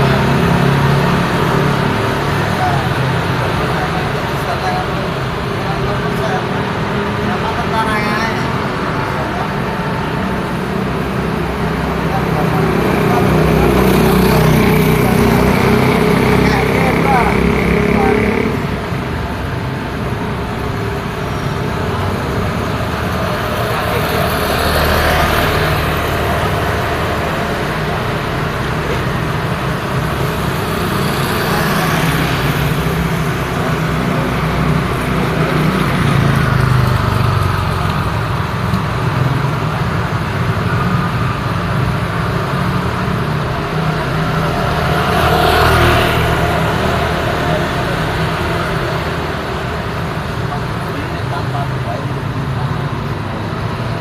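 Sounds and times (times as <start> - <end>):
road traffic rumble: 0.0 - 54.0
vehicles passing: 0.0 - 54.0.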